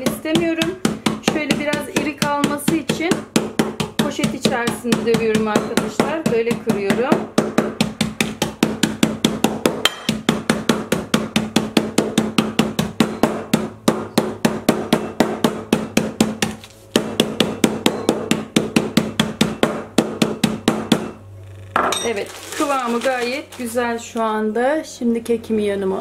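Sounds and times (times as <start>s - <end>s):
mallet pounding peanuts in bag: 0.0s - 21.2s, 21.8s - 24.0s.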